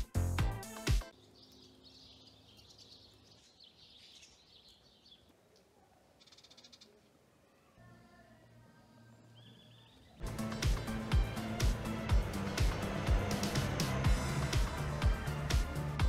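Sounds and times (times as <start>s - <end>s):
distant birds chirping: 1.0s - 16.0s.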